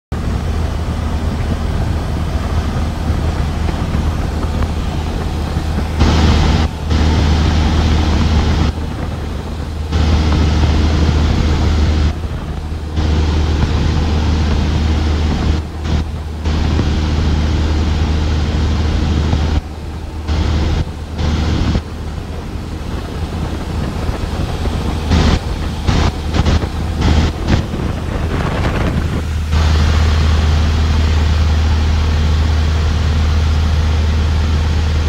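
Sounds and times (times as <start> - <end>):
aircraft engine and propeller drone: 0.1 - 35.0
broad rushing noise: 0.1 - 35.0.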